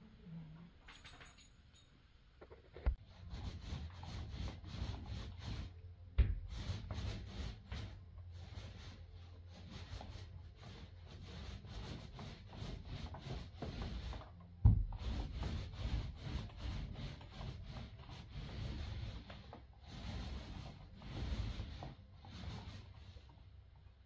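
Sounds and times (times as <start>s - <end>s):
paint roller rolling on wall: 2.4s - 24.0s.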